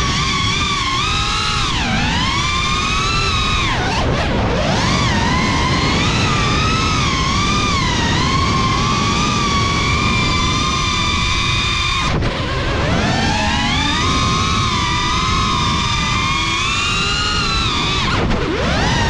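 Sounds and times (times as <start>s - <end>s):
drone motors whining: 0.0s - 19.0s
rush of wind: 0.0s - 19.0s.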